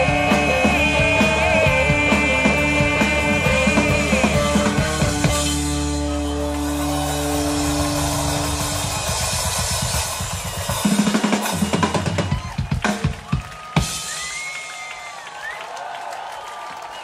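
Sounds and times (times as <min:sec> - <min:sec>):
drum kit fill: 0:00.0 - 0:14.7.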